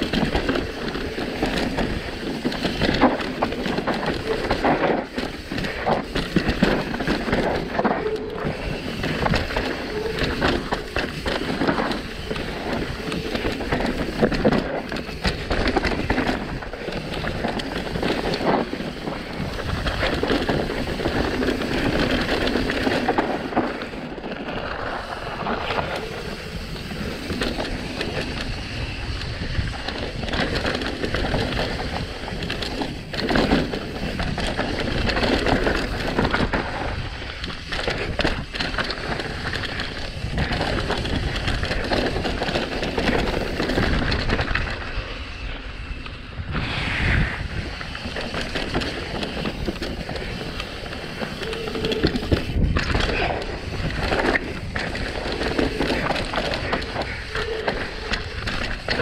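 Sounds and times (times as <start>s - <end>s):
bike rattling and knocking: 0.0s - 46.4s, 47.4s - 59.0s
tyres rolling over dirt and rock: 0.0s - 59.0s.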